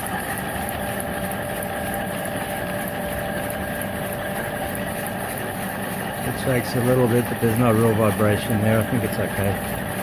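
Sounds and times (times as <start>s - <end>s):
lathe motor whirring: 0.0s - 10.0s.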